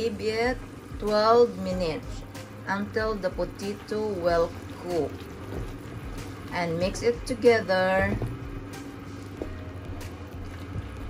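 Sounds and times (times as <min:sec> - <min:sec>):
steady low hum: 0:00.0 - 0:11.0
spatula stirring food in pan: 0:00.6 - 0:11.0.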